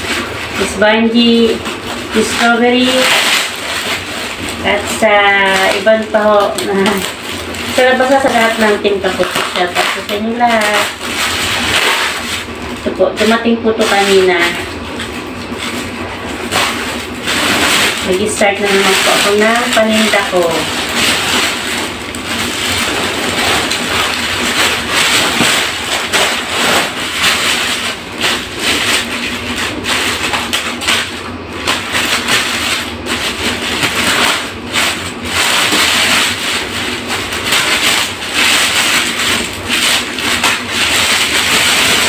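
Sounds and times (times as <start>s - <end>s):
plastic bag crinkling: 0.0s - 42.0s.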